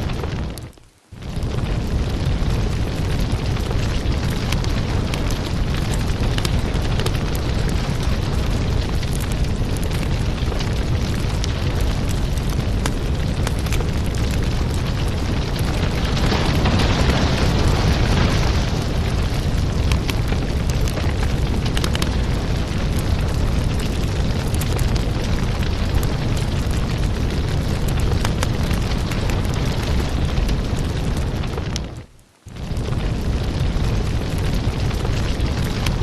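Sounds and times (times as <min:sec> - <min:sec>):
fire hissing: 0:00.0 - 0:36.0
fire rumbling: 0:00.0 - 0:36.0
wood crackling and popping: 0:00.0 - 0:36.0.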